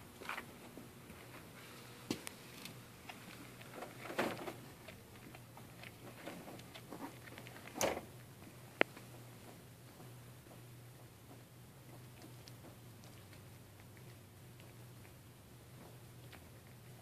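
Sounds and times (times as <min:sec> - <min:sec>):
cat chewing and crunching: 0:00.1 - 0:17.0.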